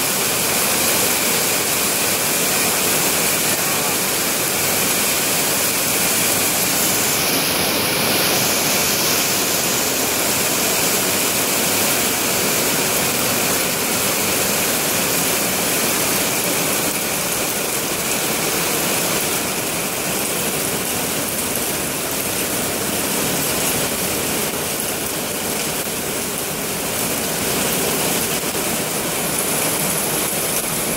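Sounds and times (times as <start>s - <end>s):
heavy rain pouring: 0.0s - 30.9s
water running across paved floor: 0.0s - 30.9s.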